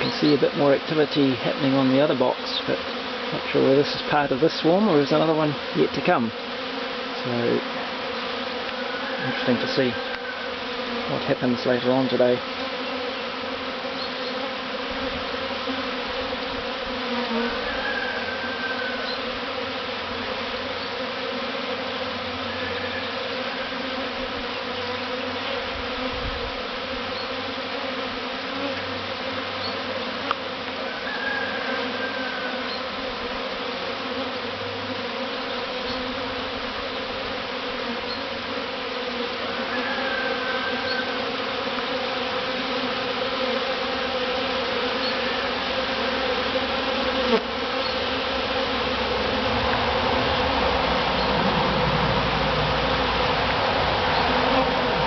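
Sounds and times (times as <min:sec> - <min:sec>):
honeybee swarm buzzing: 0:00.0 - 0:55.0.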